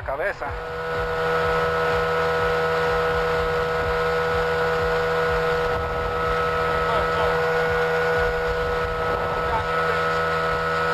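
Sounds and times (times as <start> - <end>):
outboard motor whining: 0.0 - 10.9
wind buffeting microphone: 0.5 - 10.9.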